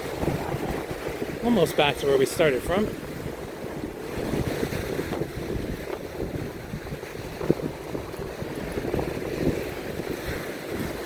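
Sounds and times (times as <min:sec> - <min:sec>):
ocean surf: 0:00.0 - 0:11.0
wind rumbling on microphone: 0:00.0 - 0:11.0.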